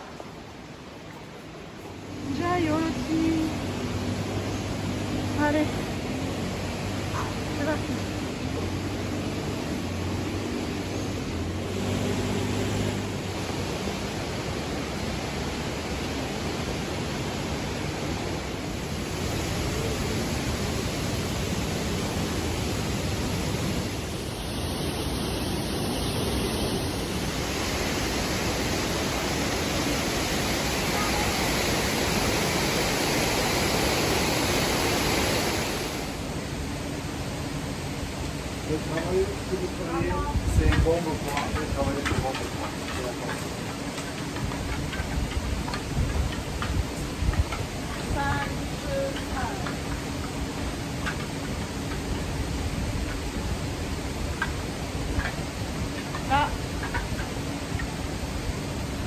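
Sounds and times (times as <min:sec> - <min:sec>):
steady broadband rushing noise: 0:00.0 - 0:59.0.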